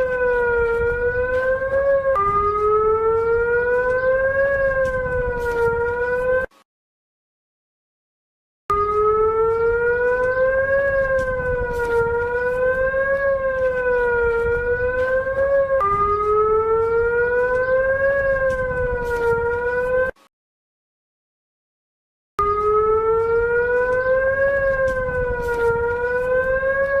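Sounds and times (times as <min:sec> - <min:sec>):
emergency siren wailing: 0:00.0 - 0:06.6, 0:08.7 - 0:20.2, 0:22.4 - 0:27.0.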